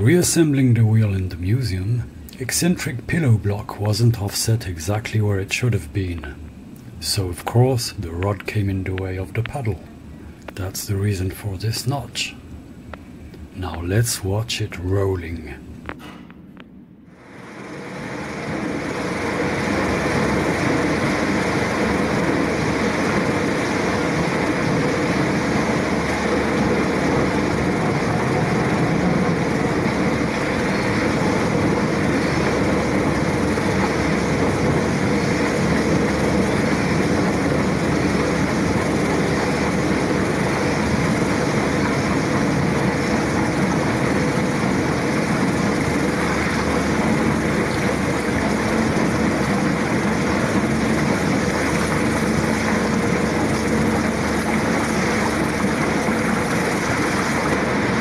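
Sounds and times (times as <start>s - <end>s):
paddle wheel mechanical noise: 0.0s - 15.3s, 17.1s - 58.0s.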